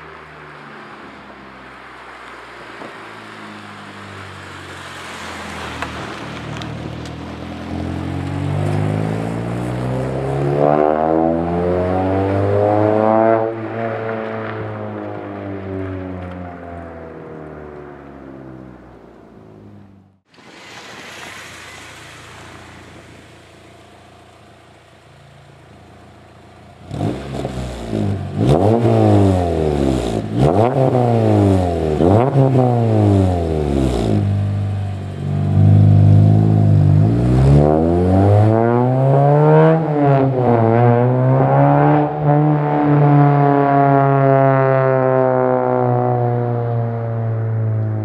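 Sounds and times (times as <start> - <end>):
car engine revving: 3.5 - 48.0.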